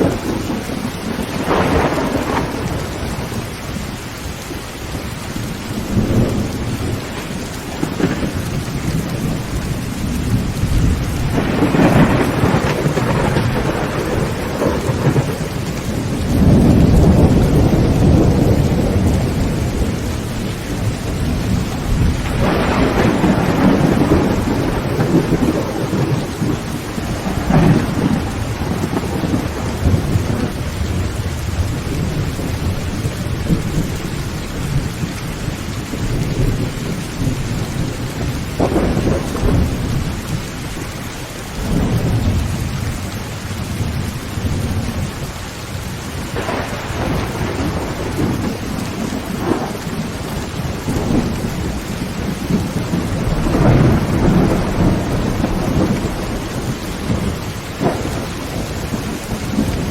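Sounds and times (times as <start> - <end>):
sharp thunder cracks: 0.0 - 3.5, 5.8 - 9.4, 10.1 - 34.0, 36.0 - 40.2, 46.3 - 59.9
heavy rain on a tin roof: 0.0 - 59.9
low rolling thunder: 0.0 - 59.9.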